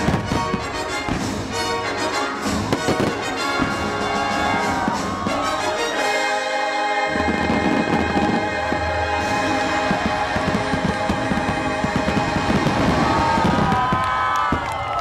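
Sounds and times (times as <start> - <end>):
fireworks bursting and crackling: 0.0 - 5.8, 7.2 - 15.0
music with sustained chords: 0.0 - 13.0.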